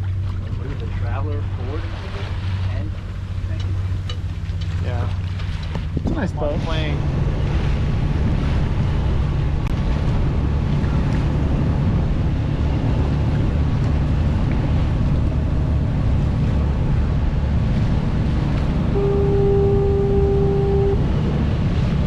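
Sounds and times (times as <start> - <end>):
boat engine droning: 0.0 - 22.0
water noise: 0.0 - 22.0
wind on microphone: 1.7 - 22.0.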